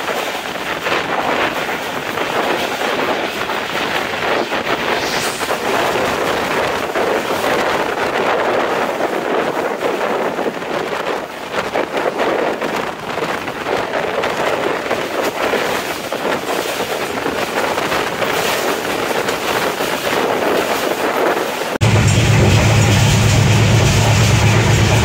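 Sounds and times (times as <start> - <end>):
train carriage rattling on track: 0.0 - 25.0
wind buffeting microphone: 0.0 - 25.0.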